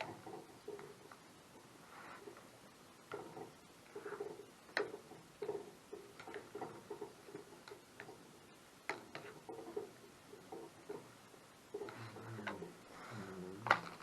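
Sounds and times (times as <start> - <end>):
faint irregular ticks and taps: 0.0 - 12.7.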